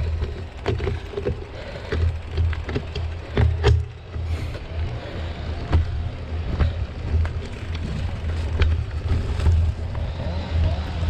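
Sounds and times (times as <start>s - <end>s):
bike rattling clicks and knocks: 0.0s - 11.0s
bike tyres on dirt: 0.0s - 11.0s.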